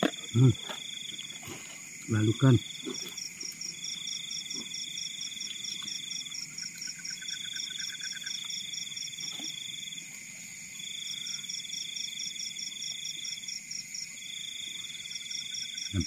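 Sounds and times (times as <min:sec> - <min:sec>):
insects trilling in chorus: 0:00.0 - 0:16.0.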